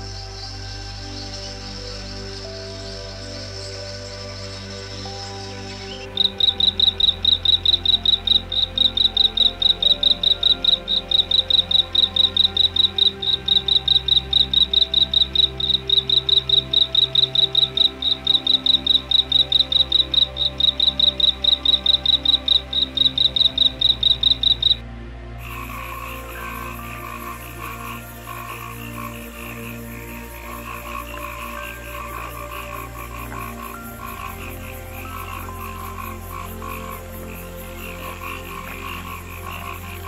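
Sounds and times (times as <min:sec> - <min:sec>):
cricket chirping: 0:00.0 - 0:24.8, 0:25.4 - 0:40.0
soft background music: 0:00.0 - 0:40.0.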